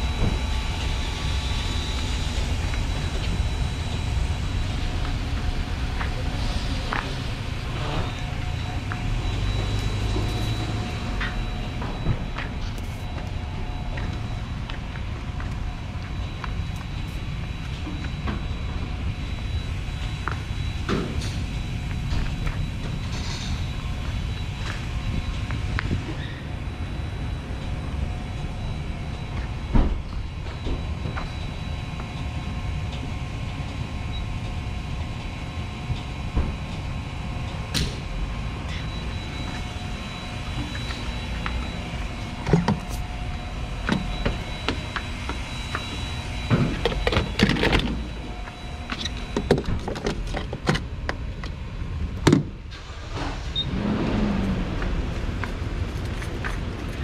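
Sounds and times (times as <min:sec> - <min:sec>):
fuel pump humming: 0:00.0 - 0:36.3, 0:36.9 - 0:51.6.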